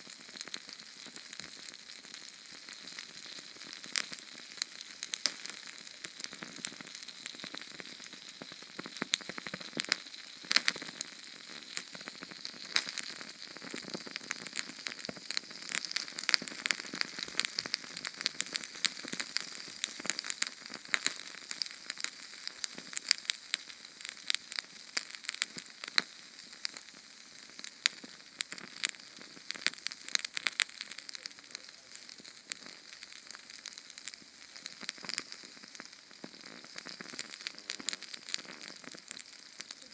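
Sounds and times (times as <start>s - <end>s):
canned fuel flame crackling: 0.0s - 39.9s.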